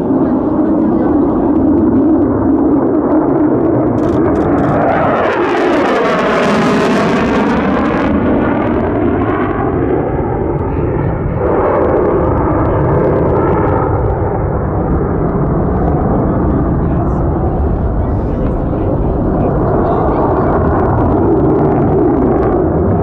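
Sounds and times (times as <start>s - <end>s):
jet flying past overhead: 0.0s - 23.0s.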